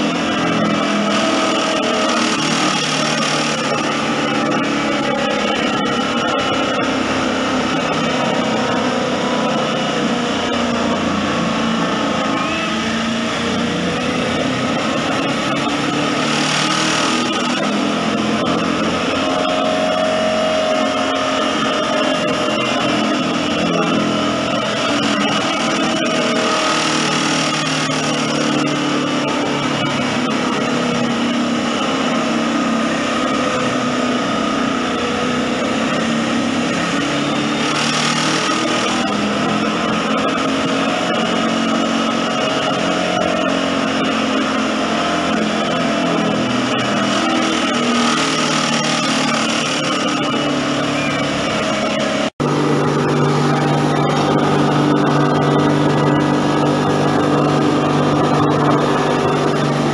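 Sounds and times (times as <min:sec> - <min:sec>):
sawdust machine cutting wood: 0:00.0 - 0:59.9.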